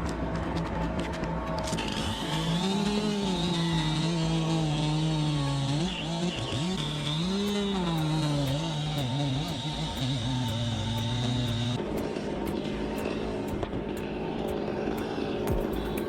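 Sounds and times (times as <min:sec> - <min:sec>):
chainsaw cutting wood: 0:01.6 - 0:16.0.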